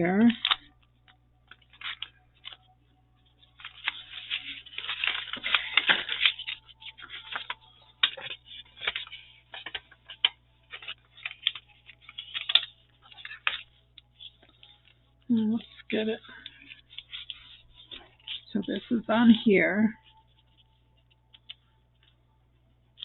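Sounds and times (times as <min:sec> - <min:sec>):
paper rustling and scraping: 0:01.5 - 0:02.6, 0:03.2 - 0:22.2.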